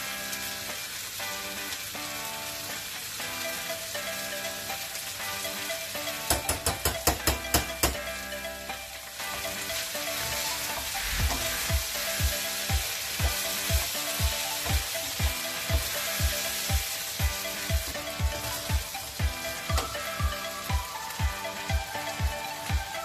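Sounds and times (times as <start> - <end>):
background music with steady beat: 0.0 - 23.0
meat sizzling in a frying pan: 0.0 - 23.0.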